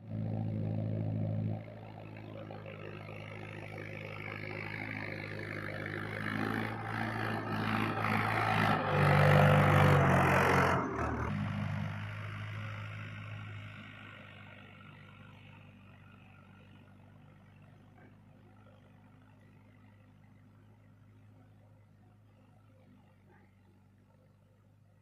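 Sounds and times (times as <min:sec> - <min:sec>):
tractor engine running: 0:00.0 - 0:24.4.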